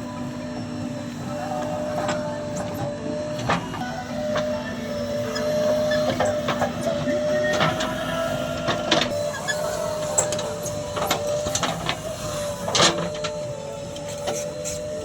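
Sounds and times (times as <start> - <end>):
low diesel drone: 0.0 - 15.0
machinery whine: 0.0 - 15.0.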